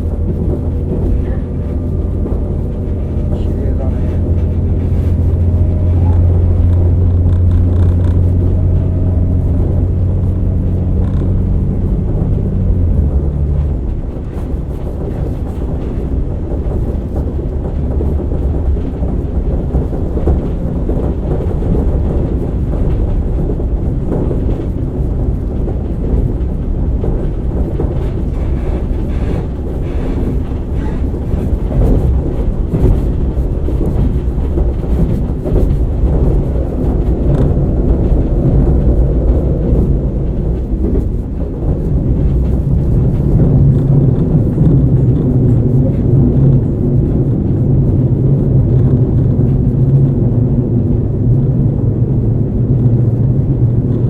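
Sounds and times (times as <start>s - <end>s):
muffled railcar rumble: 0.0s - 54.0s.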